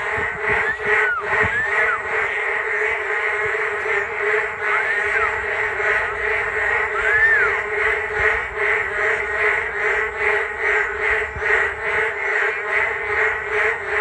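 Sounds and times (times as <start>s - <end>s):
chorus of frogs calling: 0.0s - 14.0s.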